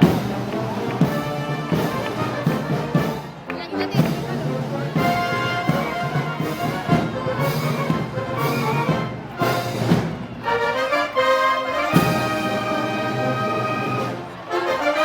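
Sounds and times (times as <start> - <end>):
brass band playing march: 0.0 - 15.0.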